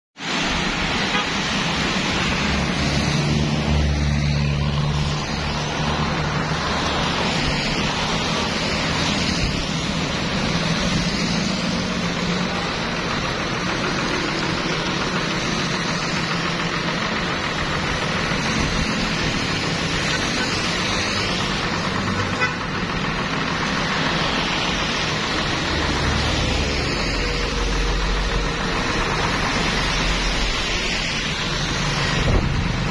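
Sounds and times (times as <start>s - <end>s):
rain hiss: 0.2s - 22.1s, 22.8s - 32.9s
traffic passing on wet road: 0.2s - 32.9s
vehicle engine humming low: 0.2s - 32.9s.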